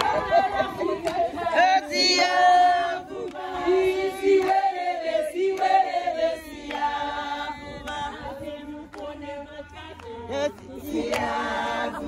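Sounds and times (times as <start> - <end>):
group of people singing: 0.0 - 12.0.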